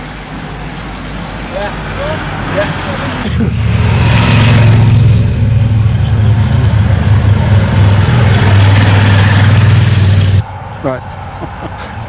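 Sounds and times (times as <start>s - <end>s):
engine running low hum: 0.0s - 10.5s.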